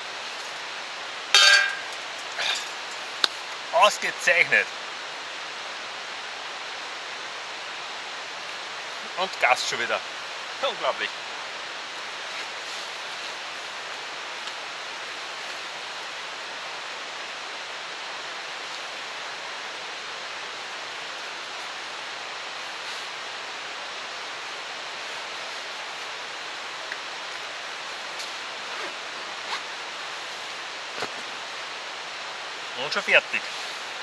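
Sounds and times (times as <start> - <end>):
steady rushing hiss: 0.0 - 34.0.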